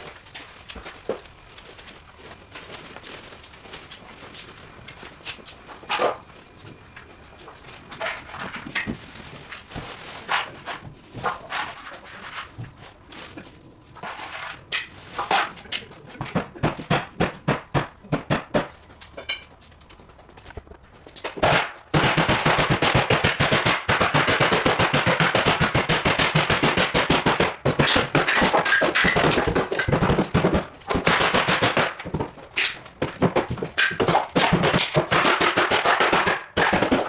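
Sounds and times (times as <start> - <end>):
irregular knocks and clatters: 0.0 - 37.0.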